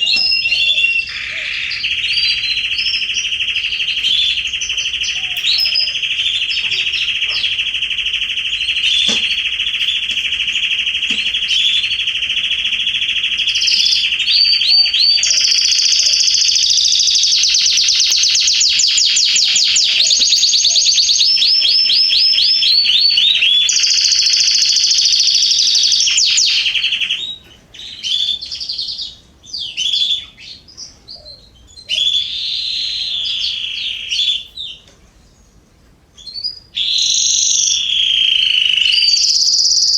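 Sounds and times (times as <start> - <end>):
canaries singing with trills: 0.0 - 39.9.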